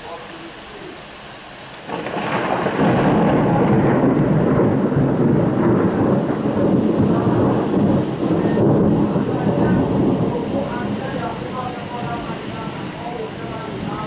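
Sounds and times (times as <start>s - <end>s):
rain falling: 0.0s - 14.0s
rolling thunder: 1.8s - 14.0s.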